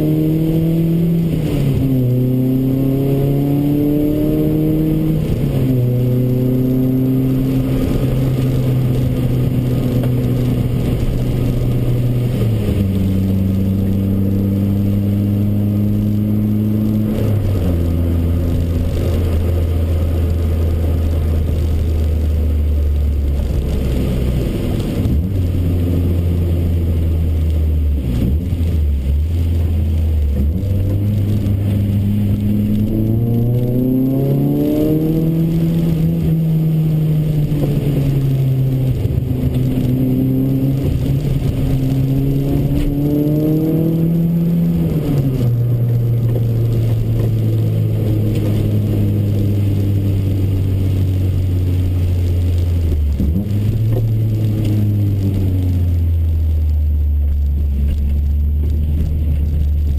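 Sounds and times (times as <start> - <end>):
car engine revving in cabin: 0.0 - 59.9.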